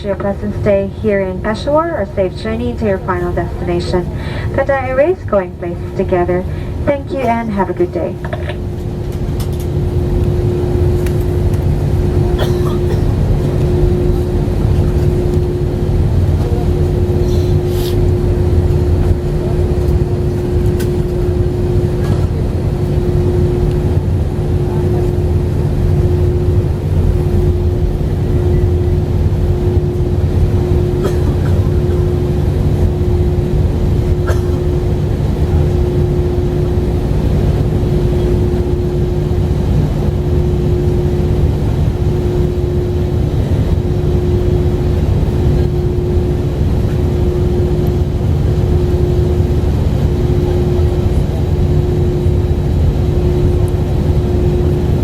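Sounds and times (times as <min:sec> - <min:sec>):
jet engines idling rumble: 0:00.0 - 0:55.0
steady hum: 0:00.0 - 0:55.0.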